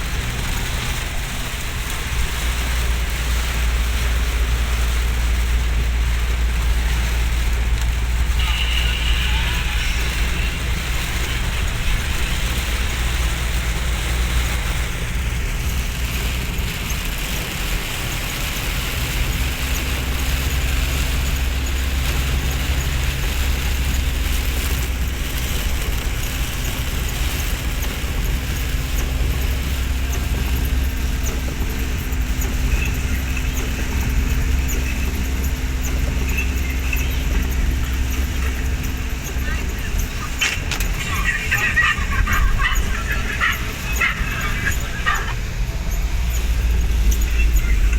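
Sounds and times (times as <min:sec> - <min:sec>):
car engine and tyres rumbling: 0:00.0 - 0:47.9
rain hissing on wet road: 0:00.0 - 0:47.9.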